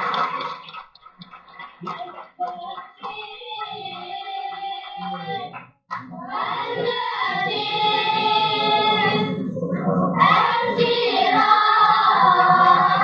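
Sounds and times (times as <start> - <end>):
children's choir singing: 1.5 - 13.0.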